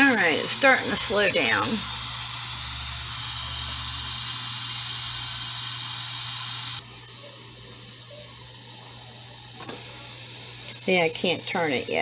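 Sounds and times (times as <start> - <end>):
steam hissing from pressure cooker: 0.0 - 7.2, 8.0 - 12.0.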